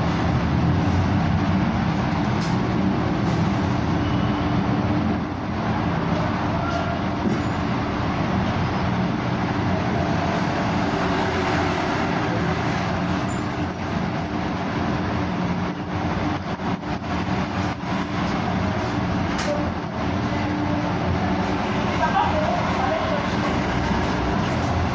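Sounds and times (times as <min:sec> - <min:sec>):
vehicle engines running: 0:00.0 - 0:24.9.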